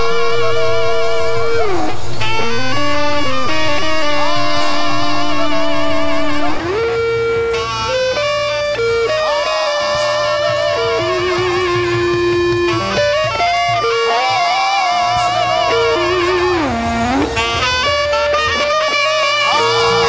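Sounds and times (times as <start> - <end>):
praise band music: 0.0 - 20.0
sliding lead line with vibrato: 0.0 - 20.0.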